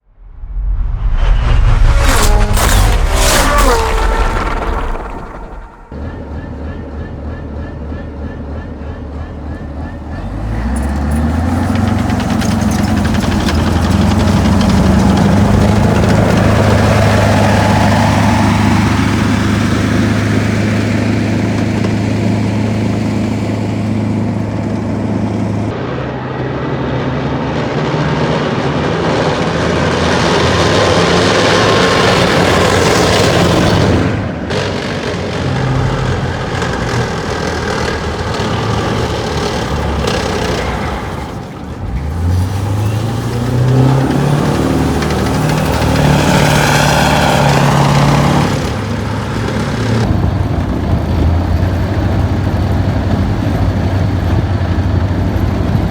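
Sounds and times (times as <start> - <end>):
diesel engine humming: 1.4 - 55.9.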